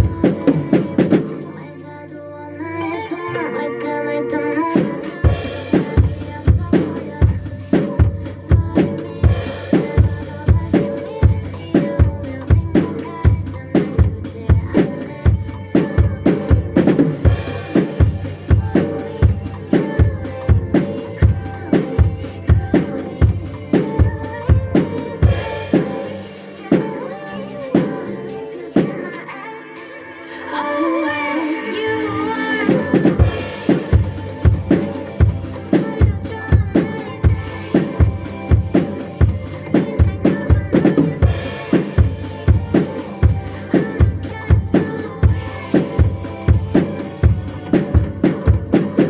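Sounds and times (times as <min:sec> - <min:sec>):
drum kit playing a steady beat: 0:00.0 - 0:01.6, 0:04.6 - 0:29.2, 0:32.5 - 0:49.0
backing track music: 0:00.0 - 0:49.0.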